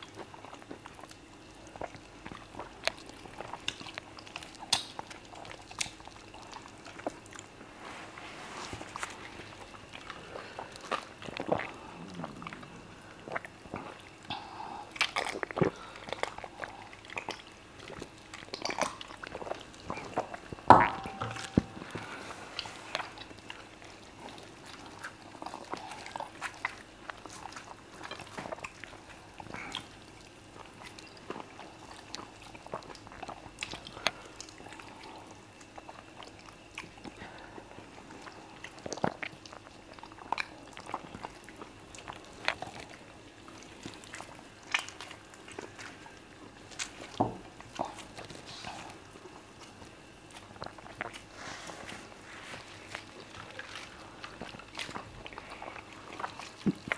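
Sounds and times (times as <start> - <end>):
people chewing: 0.0 - 56.9.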